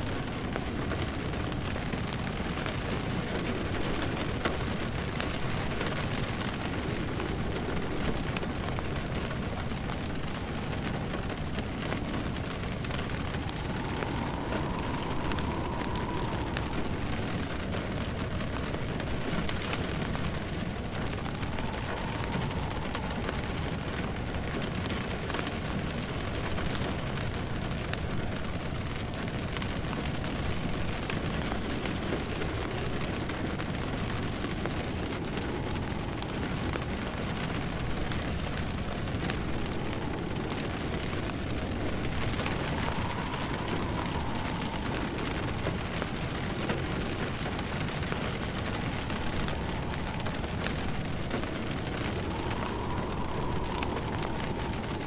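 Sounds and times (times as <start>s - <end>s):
faint wind howl: 0.0s - 55.0s
steady rain: 0.0s - 55.0s
wood fire crackling: 0.0s - 55.0s.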